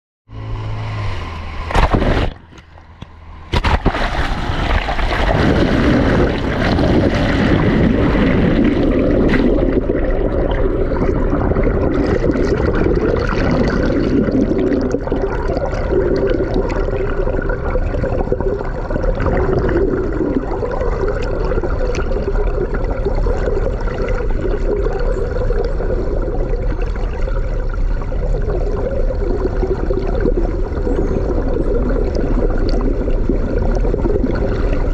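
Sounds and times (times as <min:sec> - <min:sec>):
water rushing and gurgling: 0:00.4 - 0:34.9
underwater splash: 0:00.5 - 0:34.9.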